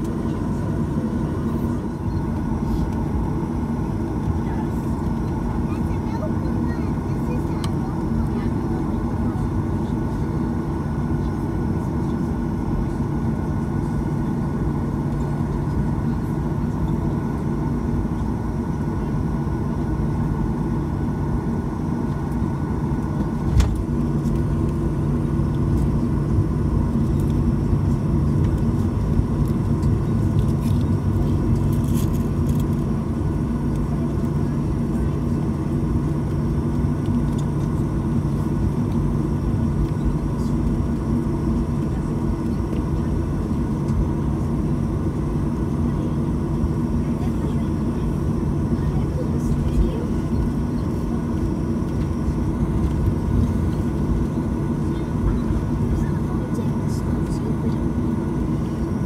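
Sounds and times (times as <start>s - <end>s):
jet engines humming in cabin: 0.0s - 59.0s.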